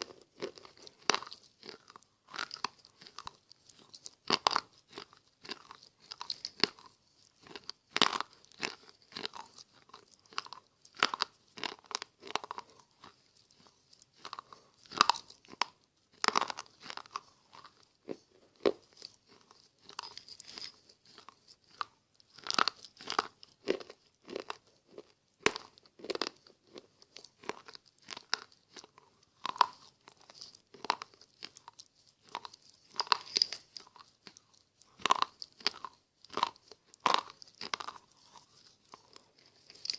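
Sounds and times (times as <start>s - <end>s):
chewing crunches: 0.0s - 39.9s.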